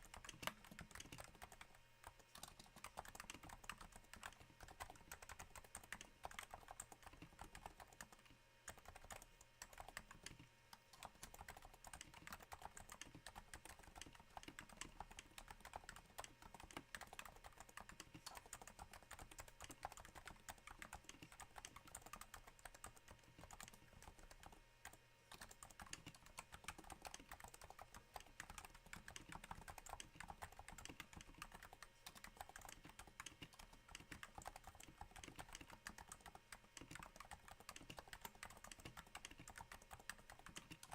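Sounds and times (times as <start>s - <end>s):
soft keyboard keystrokes: 0.0s - 40.9s.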